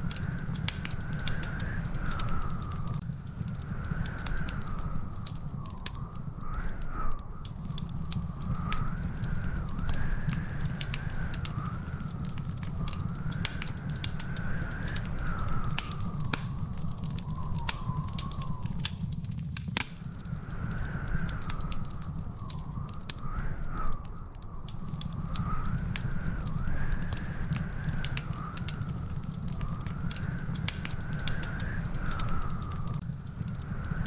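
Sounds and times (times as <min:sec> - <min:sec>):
wood fire crackling and popping: 0:00.0 - 0:34.0
thin wavering whistling tone: 0:03.7 - 0:19.2, 0:20.0 - 0:33.0.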